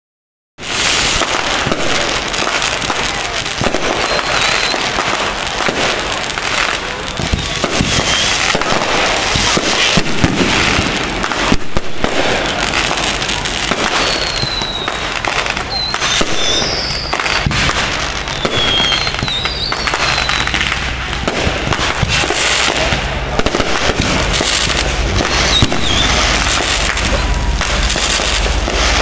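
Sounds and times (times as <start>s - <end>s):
fireworks crackling and popping: 0.6s - 29.0s.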